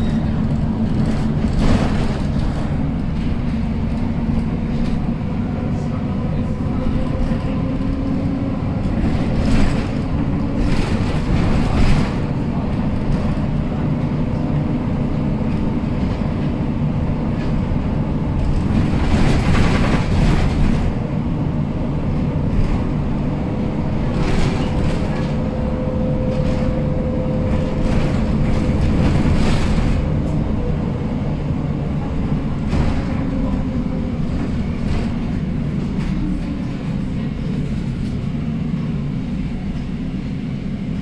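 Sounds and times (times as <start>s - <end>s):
bus engine rumble: 0.0s - 41.0s.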